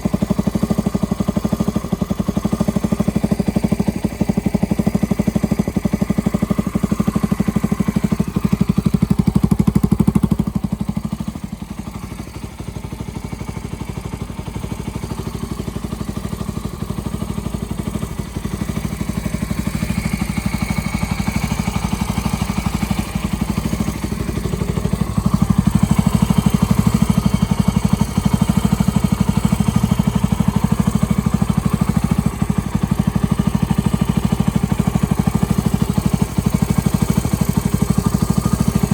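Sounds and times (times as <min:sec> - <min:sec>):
single-cylinder engine running: 0:00.0 - 0:38.9.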